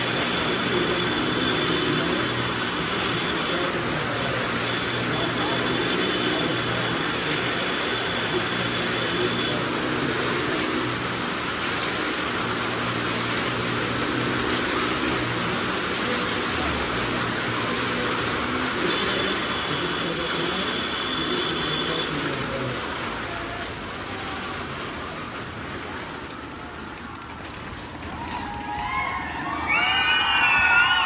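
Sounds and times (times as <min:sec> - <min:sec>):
car engines: 0:00.0 - 0:31.0.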